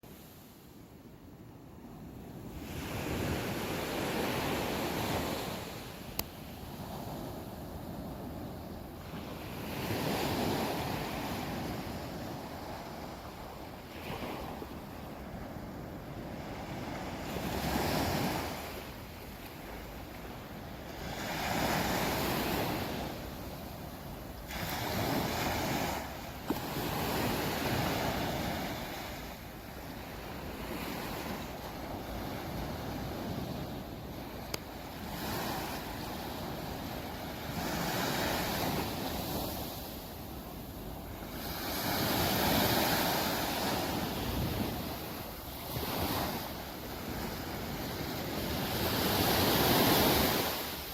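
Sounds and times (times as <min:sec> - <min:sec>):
sea waves breaking on a beach: 0:00.0 - 0:50.9
wind on the microphone: 0:00.1 - 0:50.9.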